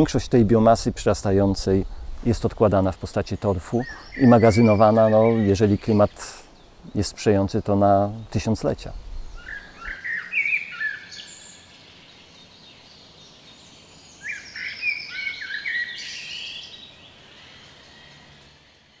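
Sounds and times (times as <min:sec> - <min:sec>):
faint outdoor background noise: 0:00.0 - 0:19.0
songbird chirping: 0:00.0 - 0:19.0.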